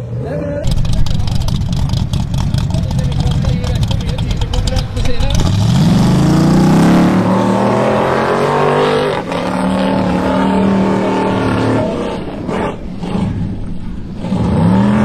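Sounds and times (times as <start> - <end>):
race car engine revving: 0.5 - 15.0.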